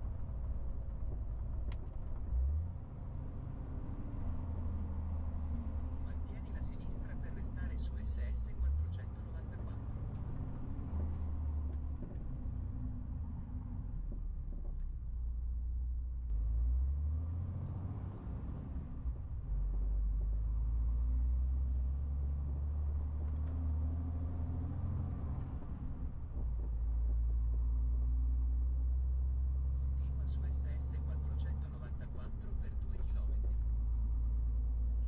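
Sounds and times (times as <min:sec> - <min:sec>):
diesel truck engine rumbling: 0:00.0 - 0:35.0
road noise: 0:00.0 - 0:35.0.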